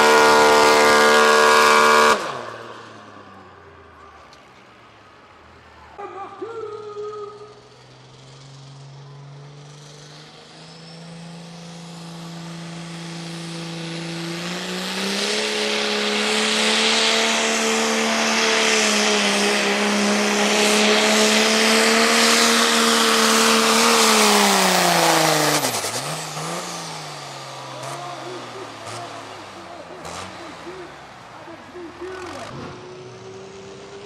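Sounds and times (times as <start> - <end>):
diesel truck engine at full throttle: 0.0 - 34.0.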